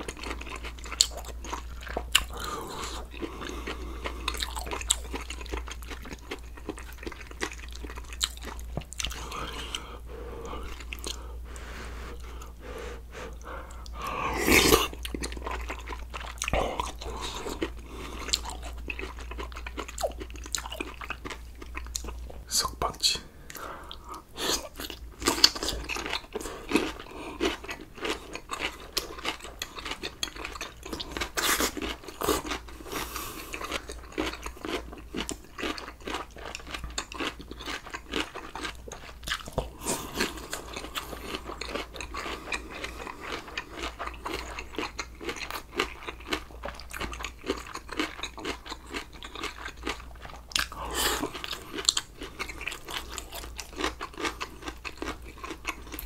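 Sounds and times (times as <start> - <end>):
man chewing with mouth clicks: 0.0 - 56.0.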